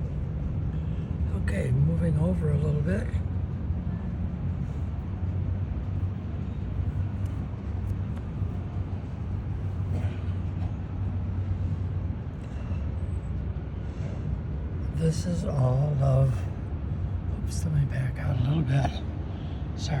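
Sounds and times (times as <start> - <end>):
low outdoor ambience rumble: 0.0 - 20.0.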